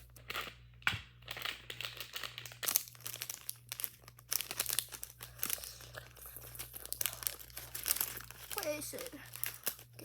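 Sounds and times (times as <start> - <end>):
plastic bag tearing and crinkling: 0.0 - 10.0.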